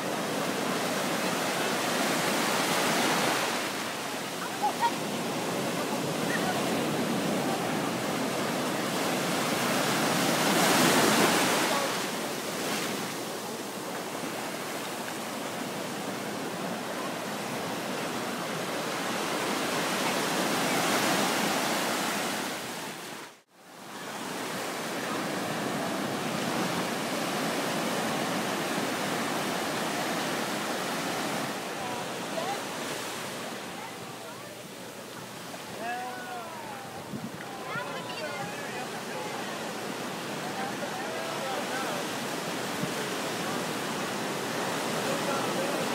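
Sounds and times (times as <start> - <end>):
ocean surf breaking: 0.0 - 45.9.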